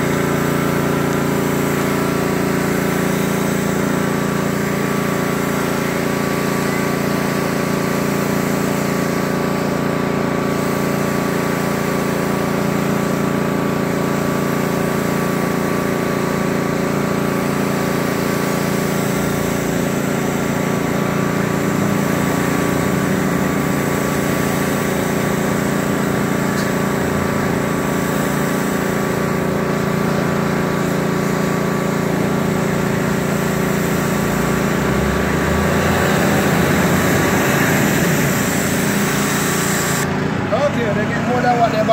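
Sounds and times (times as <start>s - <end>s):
high-pressure spray hissing on concrete: 0.0s - 41.9s
pressure washer engine running: 0.0s - 41.9s.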